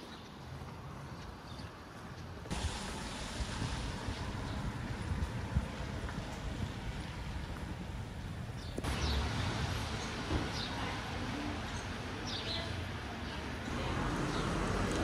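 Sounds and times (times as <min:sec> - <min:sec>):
outdoor background hiss: 0:02.2 - 0:14.8.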